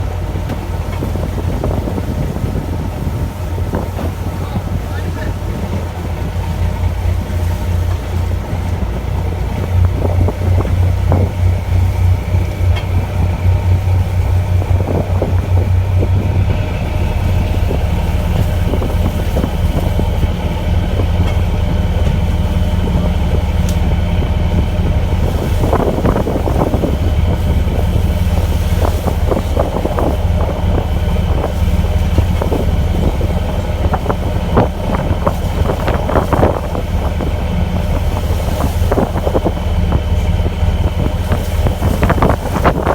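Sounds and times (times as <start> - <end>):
boat engine humming: 0.0 - 42.9.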